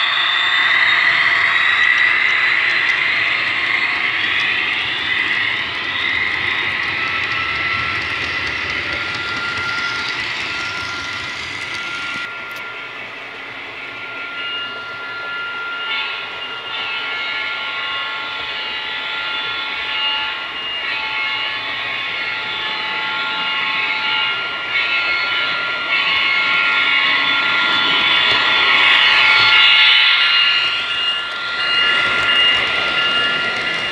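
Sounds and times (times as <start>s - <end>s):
model freight cars rolling on track: 0.0s - 33.9s
model locomotive diesel engine sound: 0.0s - 33.9s.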